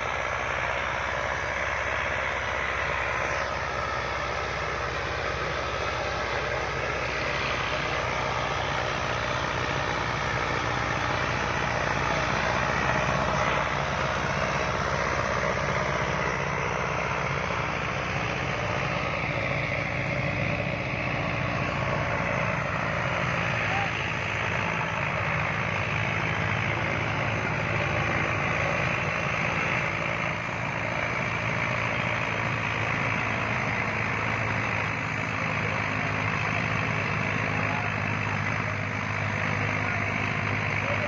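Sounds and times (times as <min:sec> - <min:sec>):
diesel tractor engine under load: 0:00.0 - 0:41.0.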